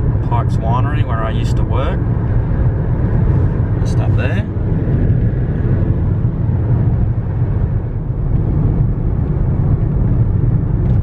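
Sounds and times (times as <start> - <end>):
car driving from inside cabin: 0.0 - 11.0.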